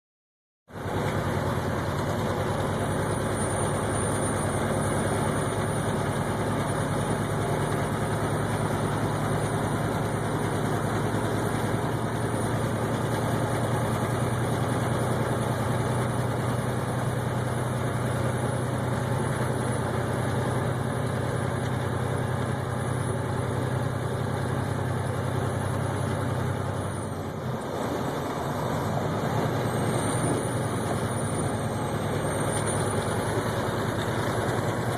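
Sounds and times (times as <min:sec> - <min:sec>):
road noise: 0:00.7 - 0:34.9
vehicle engine drone: 0:00.7 - 0:34.9.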